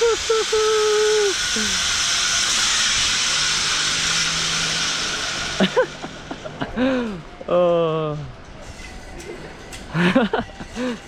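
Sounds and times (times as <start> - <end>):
zipline trolley hissing on cable: 0.0 - 11.0.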